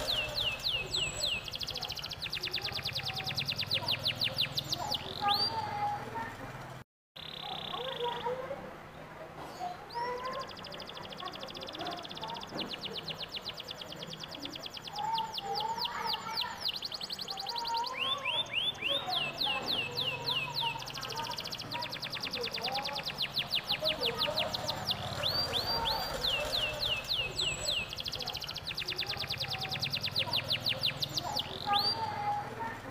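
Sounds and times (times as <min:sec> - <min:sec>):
canary singing trills: 0:00.0 - 0:06.2, 0:07.2 - 0:08.6, 0:09.5 - 0:32.9.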